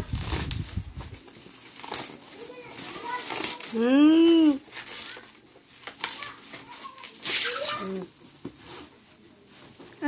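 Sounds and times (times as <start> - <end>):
bubble wrap rustling and crinkling: 0.0 - 10.0.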